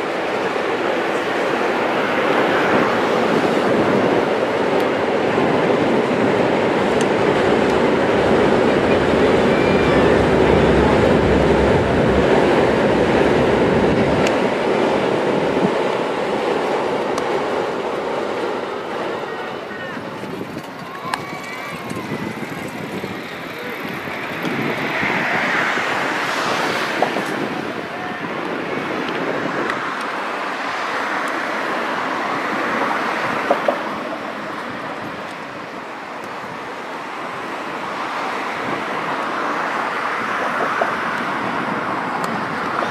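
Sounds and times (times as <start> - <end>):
wind on microphone: 0.0 - 16.3, 19.7 - 42.9
traffic rumble: 0.0 - 42.9.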